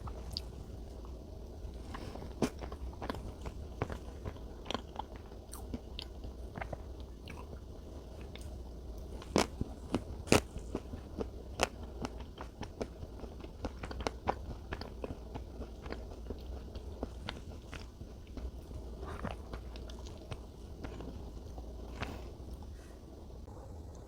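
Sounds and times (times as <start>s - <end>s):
chewing with mouth clicks: 0.0s - 22.8s.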